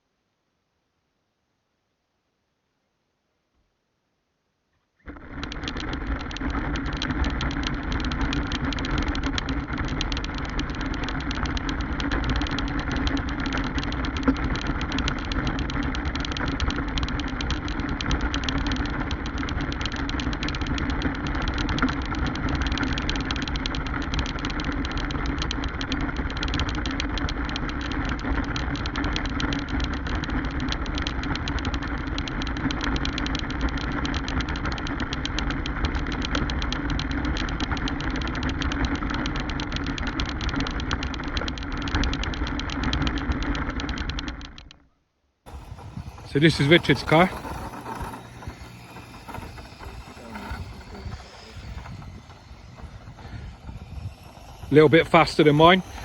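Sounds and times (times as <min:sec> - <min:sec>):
rc car electric motor buzzing: 0:05.1 - 0:44.6, 0:45.5 - 0:56.0.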